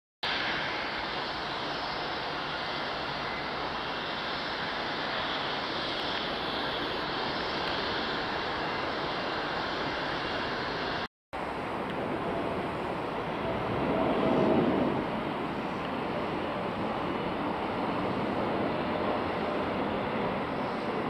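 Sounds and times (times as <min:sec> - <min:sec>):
jet engines rushing: 0:00.2 - 0:21.0.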